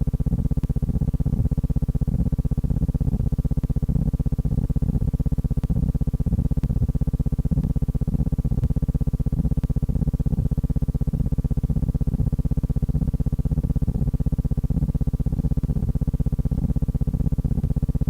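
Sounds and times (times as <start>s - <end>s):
pulsing low buzz: 0.0s - 18.0s.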